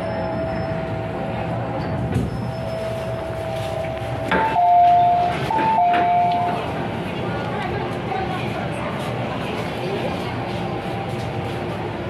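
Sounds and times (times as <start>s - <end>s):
train running whine: 0.0s - 12.0s.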